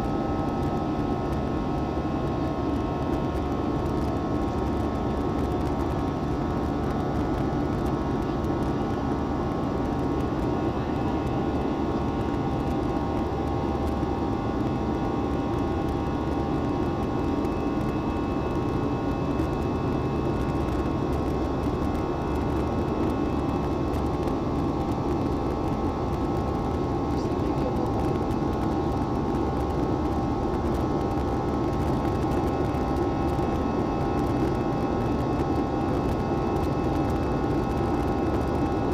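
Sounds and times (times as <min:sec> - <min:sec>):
jet cabin engine rumble: 0:00.0 - 0:38.9
steady whining tones: 0:00.0 - 0:38.9.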